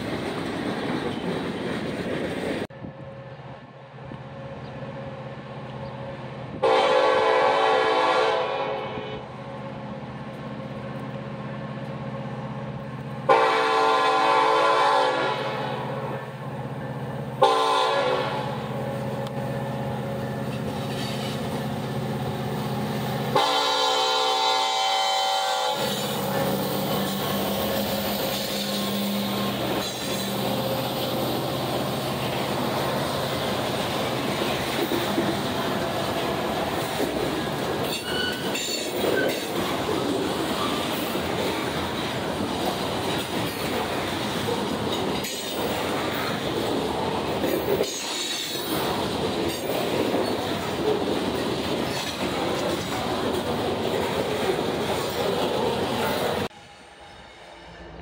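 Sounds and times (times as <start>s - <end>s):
diesel locomotive engine humming: 0.0s - 58.0s
train wheels rumbling on rail: 0.0s - 58.0s.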